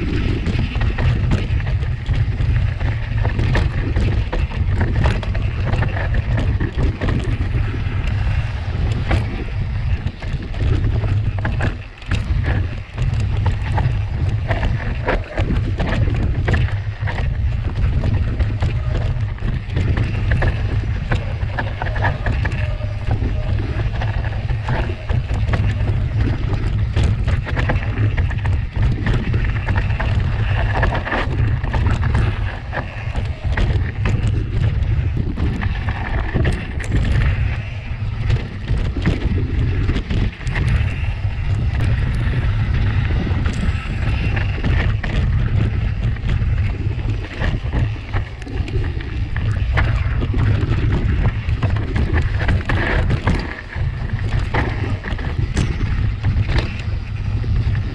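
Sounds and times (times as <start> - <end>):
bike rattling clicks and knocks: 0.0 - 57.9
bike tyres crunching on trail: 0.0 - 57.9
wind rumble on microphone: 0.0 - 57.9.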